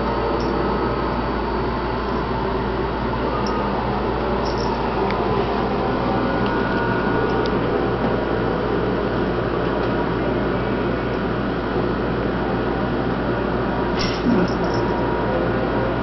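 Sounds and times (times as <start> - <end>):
machine hum and hiss: 0.0 - 16.0.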